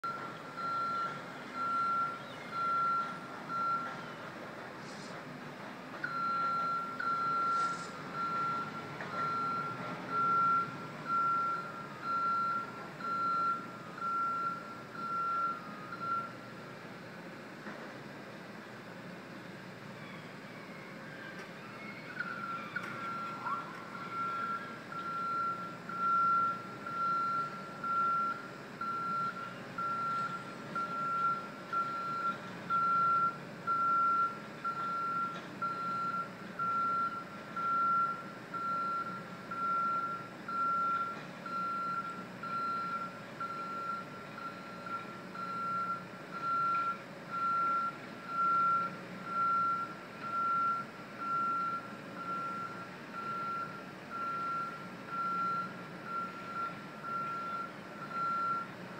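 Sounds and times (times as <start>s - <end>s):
backup alarm beeping: 0.0s - 4.0s, 6.0s - 16.4s, 22.2s - 58.7s.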